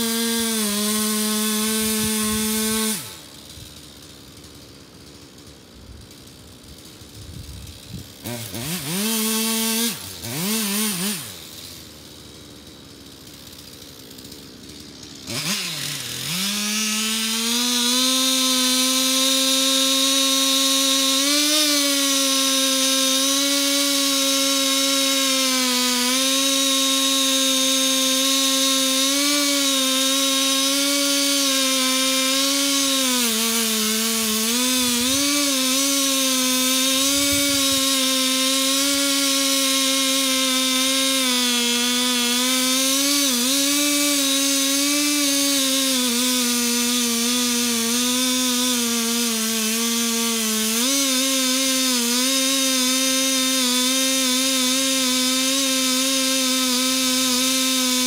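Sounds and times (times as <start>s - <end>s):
chainsaw revving and cutting: 0.0s - 58.0s.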